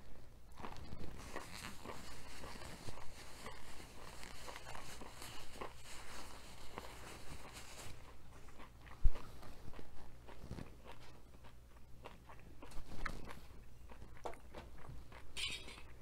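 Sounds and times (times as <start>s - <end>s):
chewing with mouth closed: 0.5s - 16.0s.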